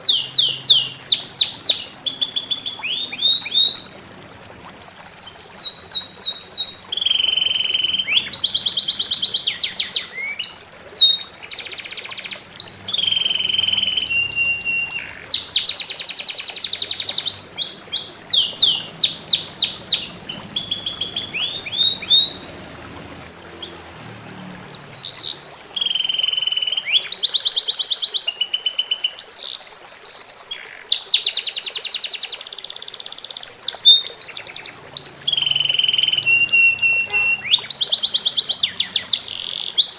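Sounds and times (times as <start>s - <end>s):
songbird singing trills: 0.0s - 4.0s, 5.2s - 22.5s, 23.5s - 39.9s
trickling water hiss: 0.0s - 39.9s.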